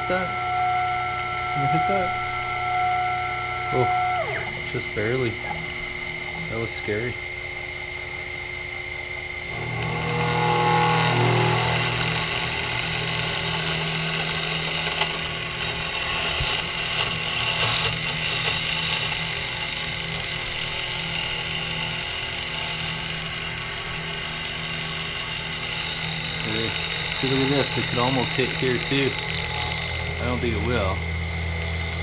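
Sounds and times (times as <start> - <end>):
milling machine drilling metal: 0.0 - 32.0.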